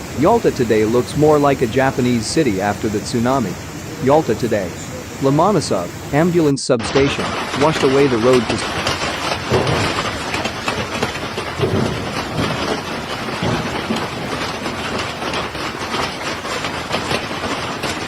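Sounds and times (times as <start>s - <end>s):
heavy rain: 0.0s - 18.0s
rushing floodwater: 0.0s - 18.0s.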